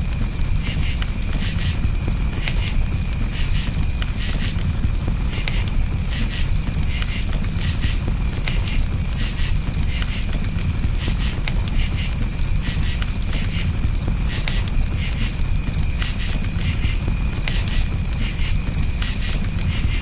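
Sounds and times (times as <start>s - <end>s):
campfire low rumble: 0.0s - 20.0s
crickets chirping: 0.0s - 20.0s
fire crackling: 0.0s - 20.0s.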